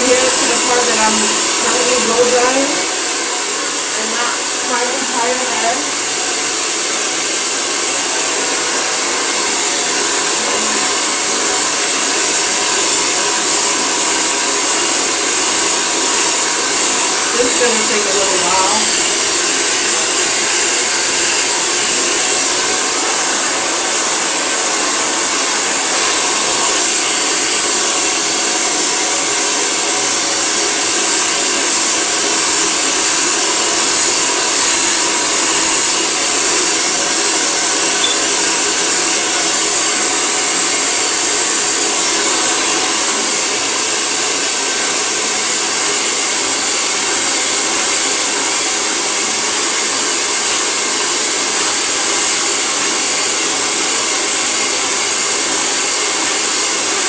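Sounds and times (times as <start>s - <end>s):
hair dryer blowing: 0.0s - 57.0s.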